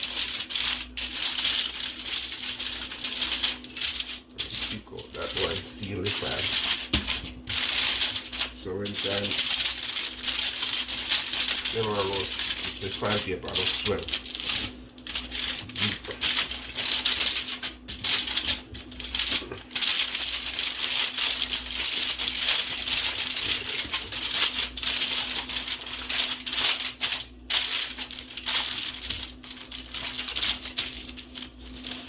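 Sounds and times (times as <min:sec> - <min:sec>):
aluminium foil crinkling: 0:00.0 - 0:32.0.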